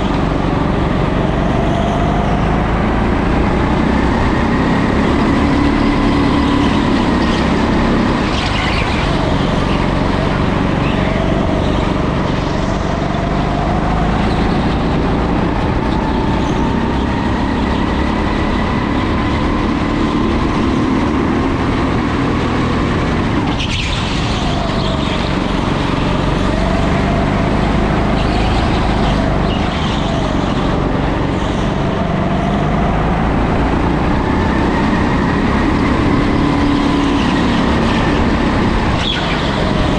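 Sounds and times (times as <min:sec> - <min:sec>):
go-kart motor drone: 0:00.0 - 0:39.9.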